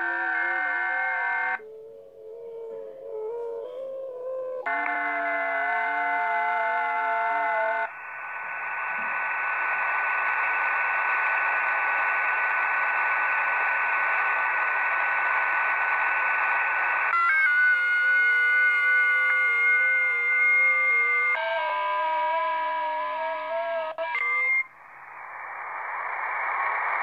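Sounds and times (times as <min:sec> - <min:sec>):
radio band noise hiss: 0:00.0 - 0:02.5, 0:04.7 - 0:27.0
radio whistling tones: 0:00.0 - 0:02.5, 0:04.6 - 0:27.0.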